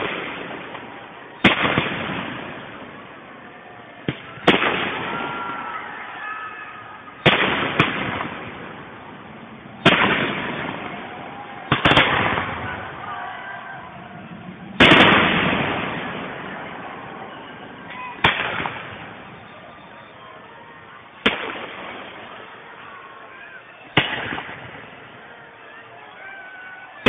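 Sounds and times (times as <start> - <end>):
fireworks bangs with rolling echo: 0.0 - 27.0.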